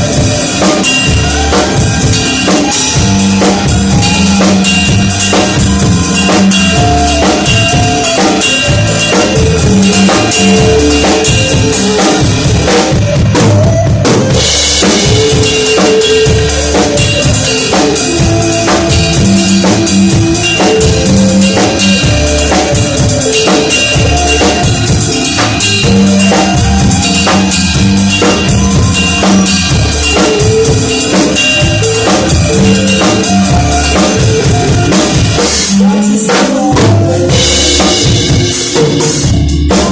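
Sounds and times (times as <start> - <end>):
drum kit groove: 0.0 - 39.9
pitched accompaniment: 0.0 - 39.9.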